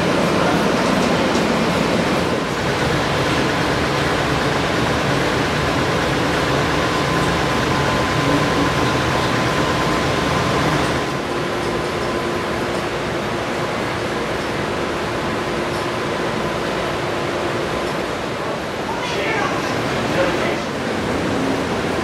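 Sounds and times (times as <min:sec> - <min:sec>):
rushing ventilation hum: 0:00.0 - 0:22.0
thin steady whine: 0:00.0 - 0:22.0.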